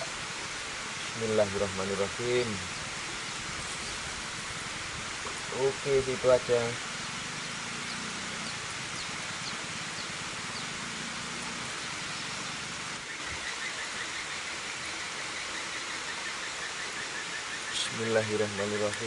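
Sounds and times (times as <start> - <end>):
rushing water at a dam: 0.0 - 19.0.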